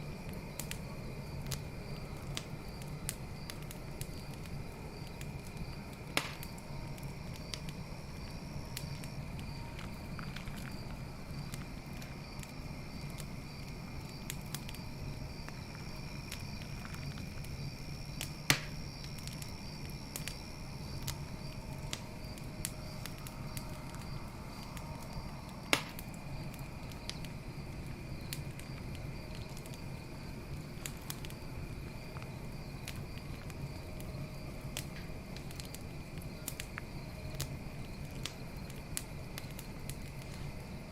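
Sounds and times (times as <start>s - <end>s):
campfire crackling: 0.0s - 40.9s
crickets trilling: 0.0s - 40.9s
fire popping: 0.0s - 40.9s.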